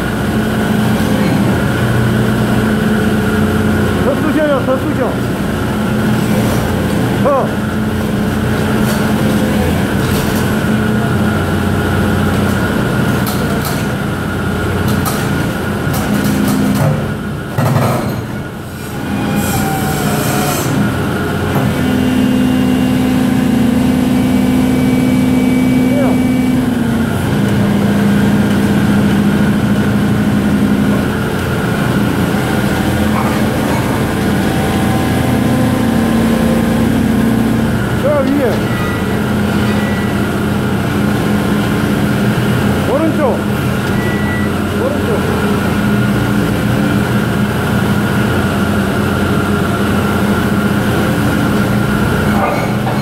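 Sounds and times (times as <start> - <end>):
excavator engine and hydraulics running: 0.0 - 53.0.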